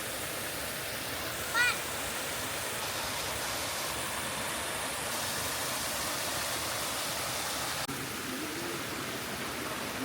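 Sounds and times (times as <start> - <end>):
flowing spring water: 0.0 - 10.0.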